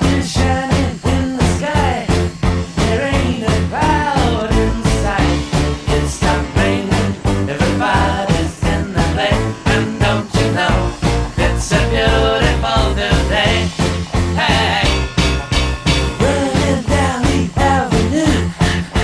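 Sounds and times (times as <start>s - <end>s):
upbeat music with heavy bass: 0.0s - 19.0s.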